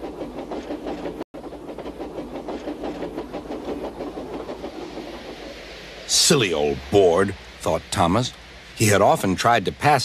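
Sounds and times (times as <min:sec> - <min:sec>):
train clattering on track: 0:00.0 - 0:10.0.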